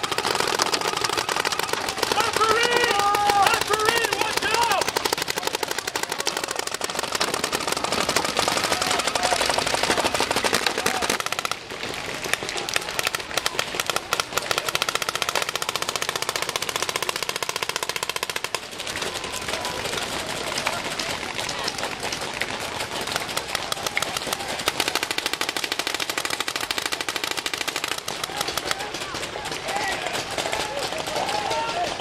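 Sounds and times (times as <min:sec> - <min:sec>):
paintball markers firing rapidly: 0:00.0 - 0:32.0.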